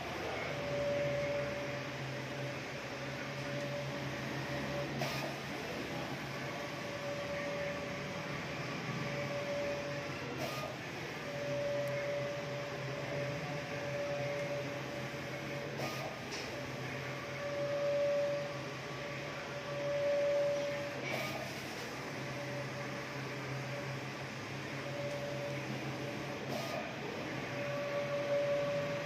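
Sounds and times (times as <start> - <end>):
printer carriage whine: 0.0 - 29.0.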